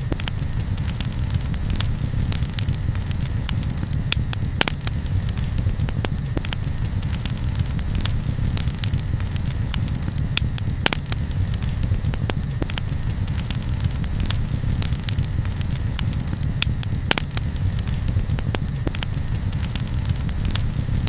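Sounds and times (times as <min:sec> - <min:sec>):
campfire crackling and popping: 0:00.0 - 0:21.0
steady low rumble: 0:00.0 - 0:21.0.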